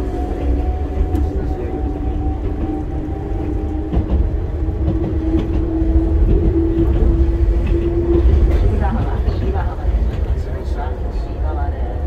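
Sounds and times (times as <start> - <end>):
train running on track: 0.0 - 12.0.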